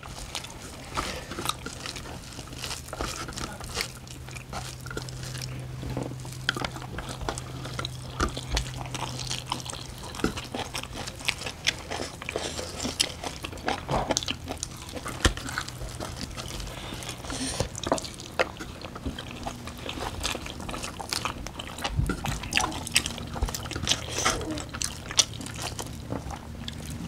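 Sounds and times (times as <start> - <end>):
wet chewing and lip smacking: 0.0 - 27.0.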